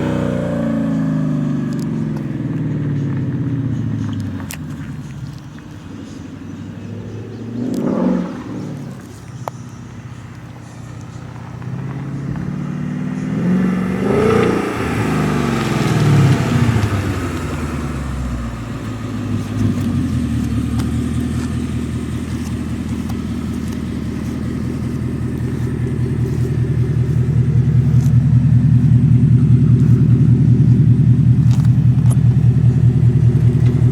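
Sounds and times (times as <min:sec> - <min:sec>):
car engine revving and rumbling: 0:00.0 - 0:33.9.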